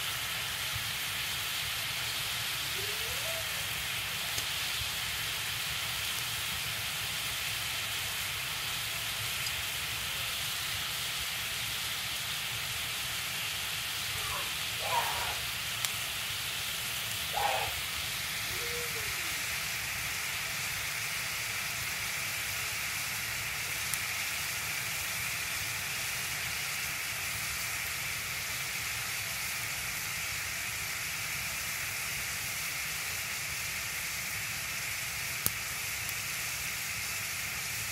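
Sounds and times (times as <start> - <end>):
steady hiss: 0.0 - 37.9.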